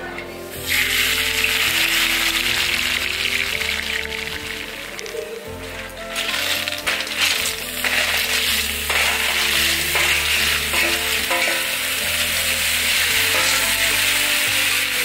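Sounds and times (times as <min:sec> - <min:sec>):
snails sizzling in hot oil: 0:00.5 - 0:15.0.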